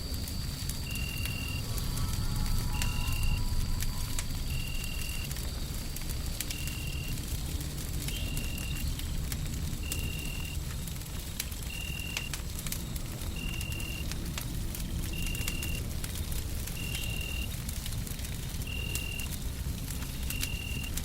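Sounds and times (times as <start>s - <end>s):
low rumble of white noise: 0.0s - 21.0s
wood fire crackling and popping: 0.0s - 21.0s.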